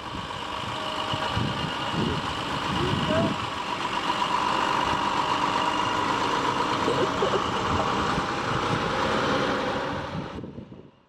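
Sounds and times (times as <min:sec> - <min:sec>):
farm machine engine running: 0:00.0 - 0:10.9.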